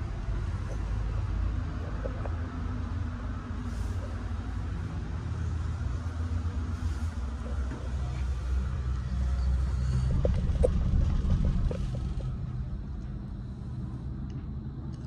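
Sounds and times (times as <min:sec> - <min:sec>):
cable car cabin rumble: 0:00.0 - 0:15.0.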